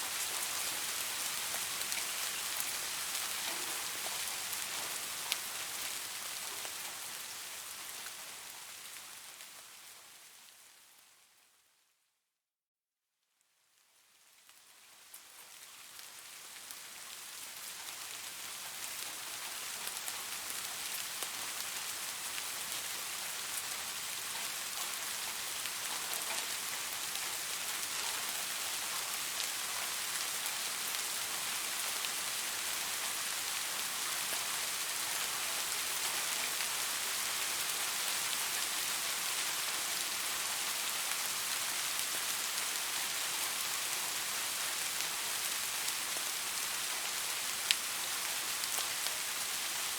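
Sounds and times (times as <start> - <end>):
rain falling on leaves: 0.0 - 11.8, 13.4 - 49.9.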